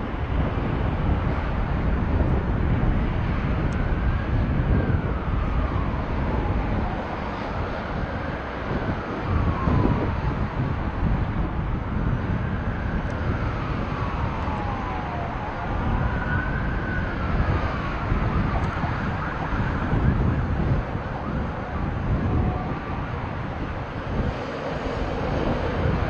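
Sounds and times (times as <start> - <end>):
emergency siren wailing: 0.0 - 26.0
wind buffeting microphone: 0.0 - 26.0.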